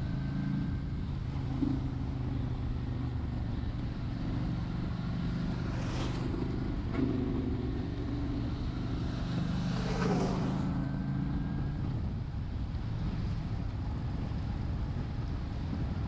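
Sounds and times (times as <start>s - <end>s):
motorcycle engine running: 0.0s - 16.0s
road and rain noise: 0.0s - 16.0s.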